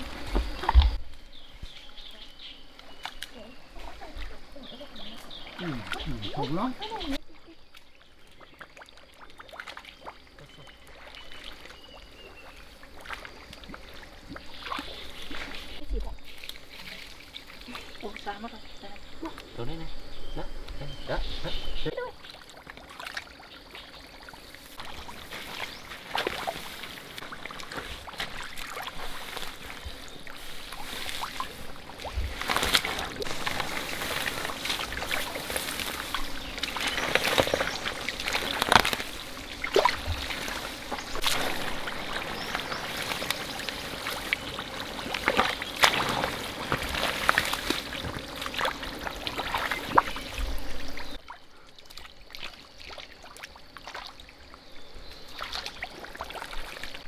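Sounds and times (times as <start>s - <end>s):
water sloshing and splashing: 2.8s - 19.5s, 21.9s - 57.0s.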